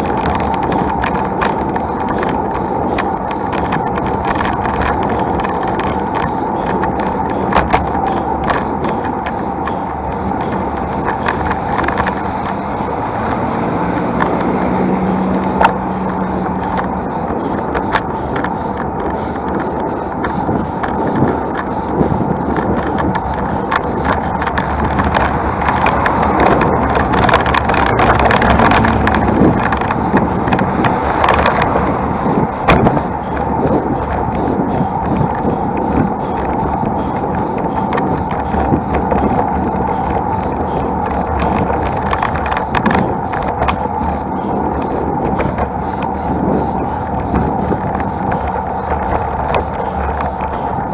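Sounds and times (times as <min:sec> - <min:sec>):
bike clicks and rattles: 0:00.0 - 0:50.9
low motor vehicle hum: 0:00.0 - 0:50.9
wind and road noise: 0:00.0 - 0:50.9.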